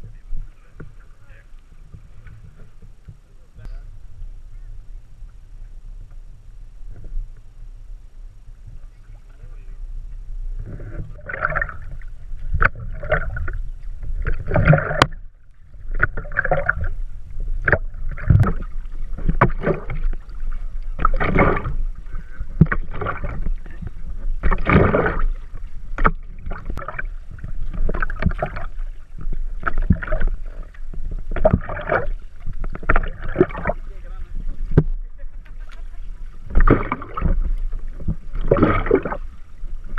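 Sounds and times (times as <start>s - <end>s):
paddle splashing water: 0.0s - 39.9s.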